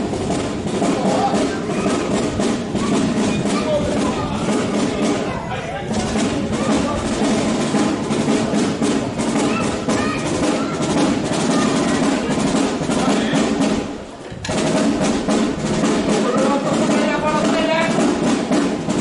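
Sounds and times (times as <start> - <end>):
drums playing: 0.0 - 19.0
parade band music: 0.0 - 19.0.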